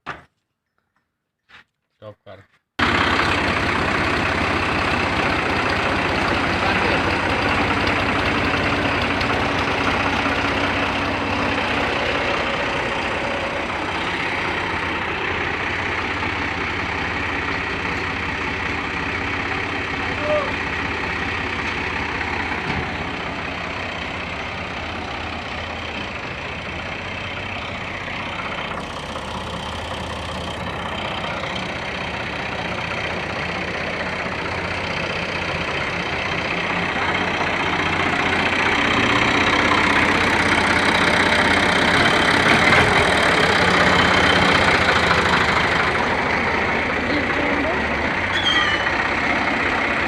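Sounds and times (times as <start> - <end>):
tractor diesel engine running: 2.8 - 50.0.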